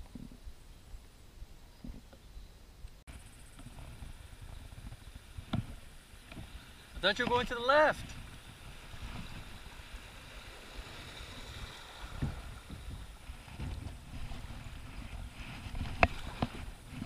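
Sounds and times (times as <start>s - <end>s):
muffled rumble of water and wind: 0.0s - 17.0s.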